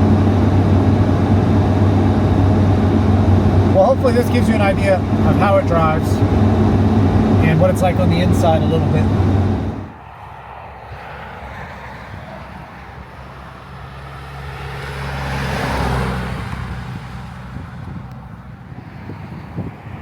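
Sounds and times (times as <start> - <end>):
diesel engine drone: 0.0 - 20.0
road noise: 0.0 - 20.0.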